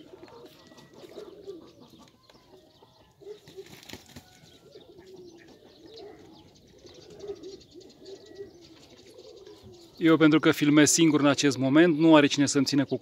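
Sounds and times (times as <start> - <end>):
low cooing bird calls: 0.0 - 13.0.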